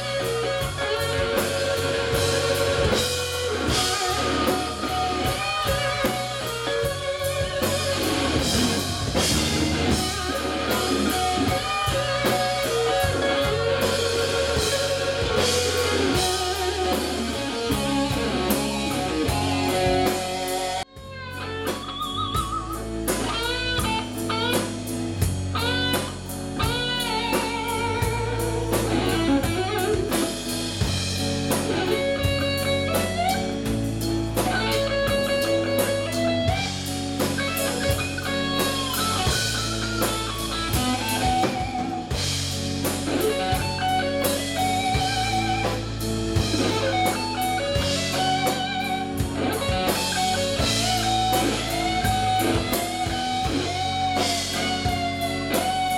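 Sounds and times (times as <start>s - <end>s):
bass line: 0.0s - 55.9s
drum kit: 0.0s - 55.9s
lead electric guitar bending notes: 0.0s - 55.9s.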